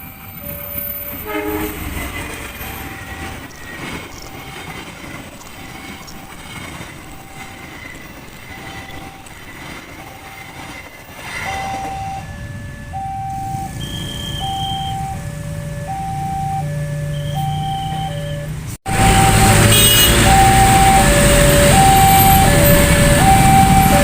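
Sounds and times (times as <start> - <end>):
crossing warning alarm tone: 0.0 - 24.0
vehicle engines humming: 0.0 - 24.0.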